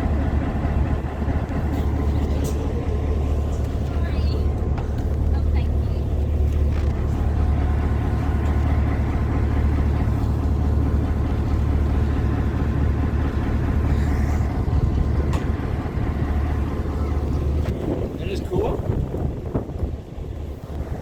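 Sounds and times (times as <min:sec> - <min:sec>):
train engine rumbling: 0:00.0 - 0:21.0.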